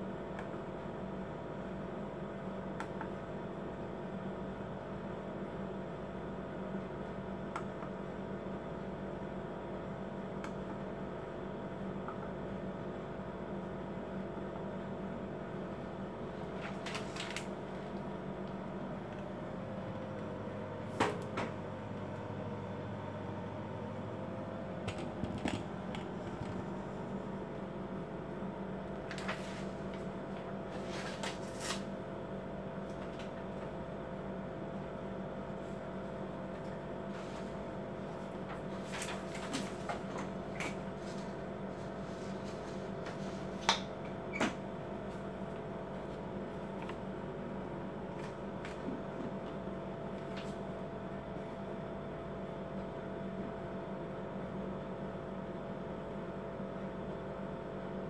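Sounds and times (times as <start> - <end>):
printer motor hum: 0.0 - 58.0.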